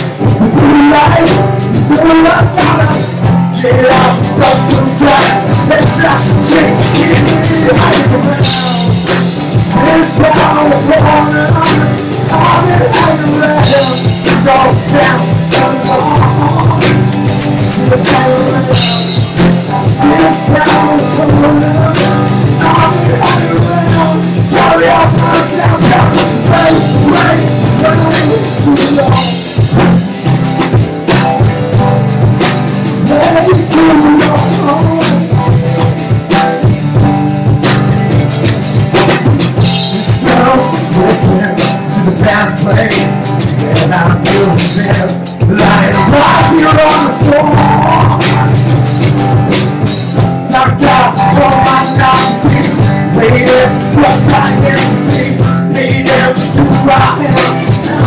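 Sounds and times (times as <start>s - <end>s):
live rock band: 0.0s - 58.0s
man singing: 0.0s - 58.0s.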